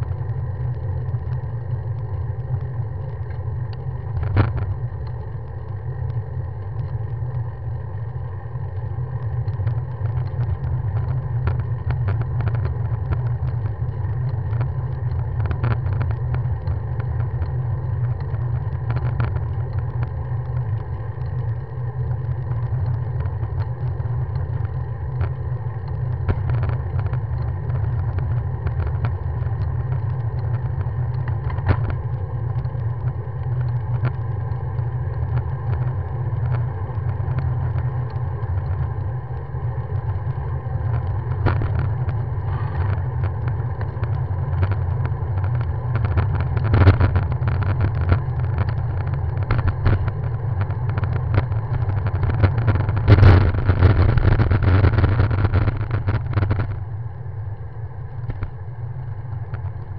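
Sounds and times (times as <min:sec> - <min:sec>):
faint clicks: 0:00.0 - 0:59.9
wind and road rumble: 0:00.0 - 0:59.9.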